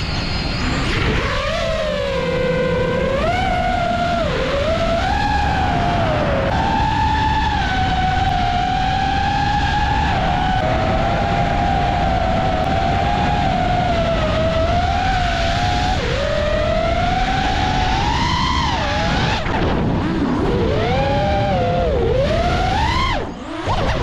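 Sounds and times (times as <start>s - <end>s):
quadcopter propellers whining: 0.0s - 24.0s
wind noise: 0.0s - 24.0s.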